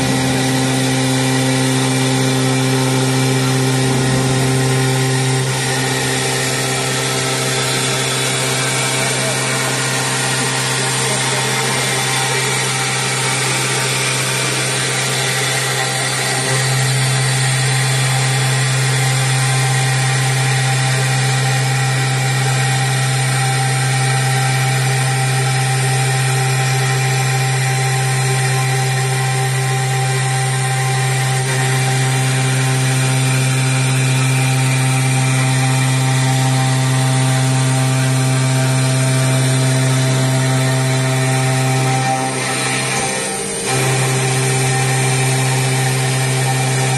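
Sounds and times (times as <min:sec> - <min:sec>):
cnc machine spindle hum: 0:00.0 - 0:46.9.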